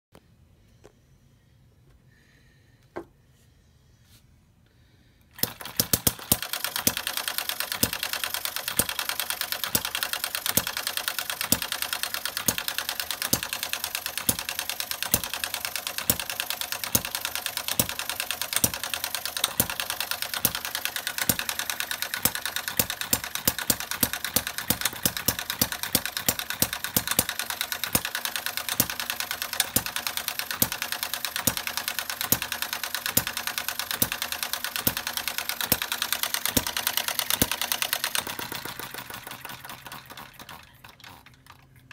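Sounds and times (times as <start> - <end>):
small gas engine running: 5.3 - 41.9.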